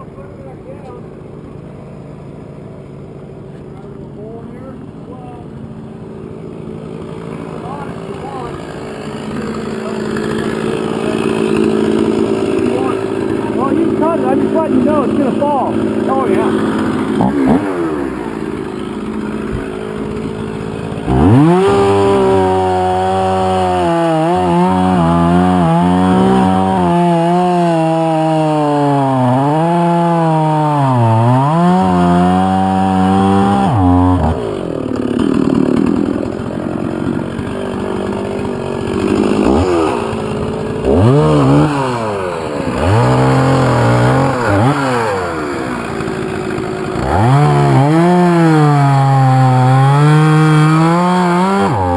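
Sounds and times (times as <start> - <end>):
chainsaw revving and cutting wood: 0.0 - 51.9.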